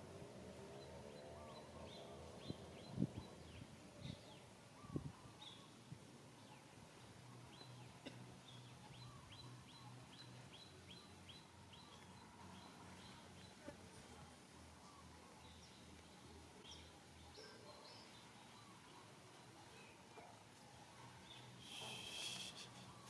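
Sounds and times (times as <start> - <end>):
small birds chirping: 0.7 - 23.0.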